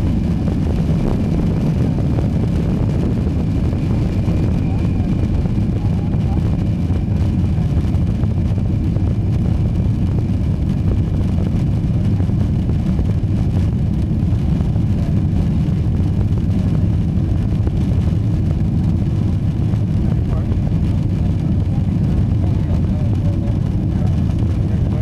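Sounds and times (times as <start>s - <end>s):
jet engine rumble inside cabin: 0.0s - 25.0s.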